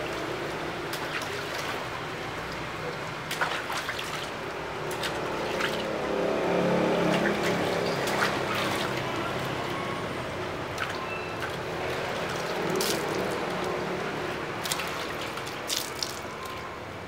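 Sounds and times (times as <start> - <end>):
water splashing in plastic basin: 0.0 - 6.0, 6.9 - 9.6, 10.7 - 13.7, 14.6 - 16.6.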